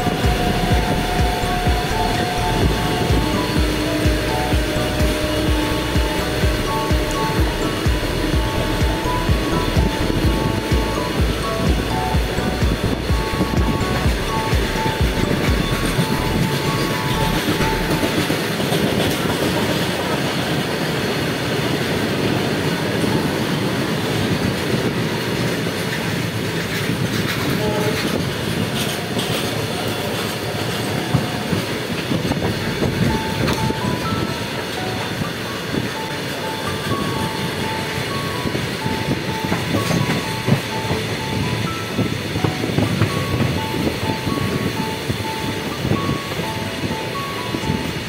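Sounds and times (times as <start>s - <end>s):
passing freight train: 0.0s - 48.0s
train wheels clattering on rail: 0.0s - 48.0s.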